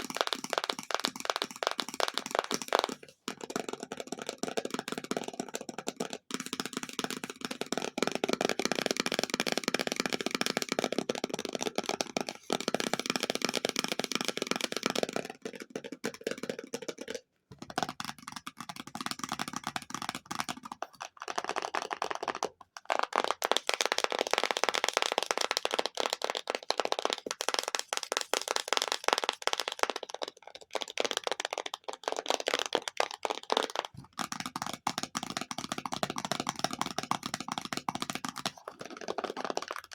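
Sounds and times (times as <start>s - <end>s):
fast tapping on objects: 0.0s - 39.9s.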